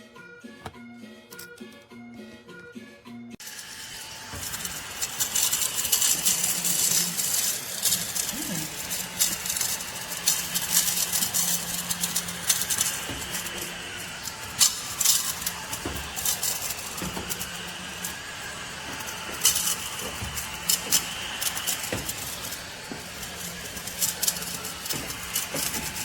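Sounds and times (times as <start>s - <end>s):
vacuum cleaner motor hum: 3.4s - 26.0s
sharp clicks and crackles: 4.3s - 26.0s.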